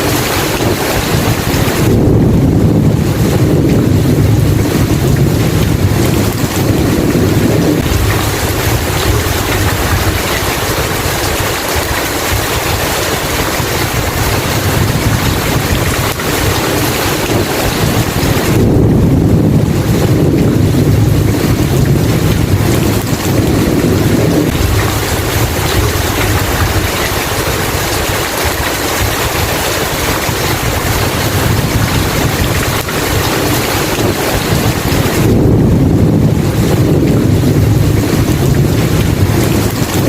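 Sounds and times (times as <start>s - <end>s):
heavy rain: 0.0s - 40.0s
thunder rumbling: 0.0s - 40.0s.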